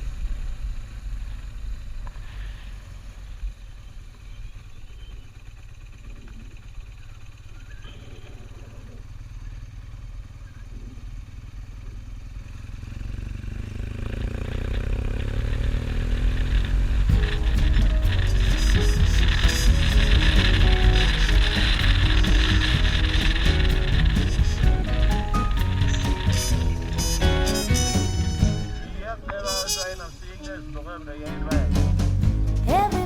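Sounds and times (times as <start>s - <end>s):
motorcycle engine running: 0.0s - 33.0s
riding noise rumble: 0.0s - 33.0s.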